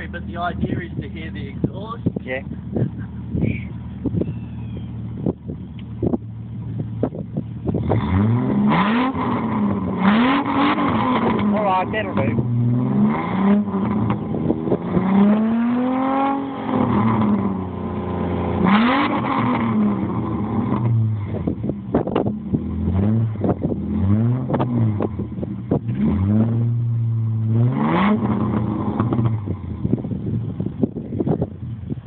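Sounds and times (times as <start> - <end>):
car engine revving: 0.0 - 32.0
exhaust pops: 0.0 - 32.0.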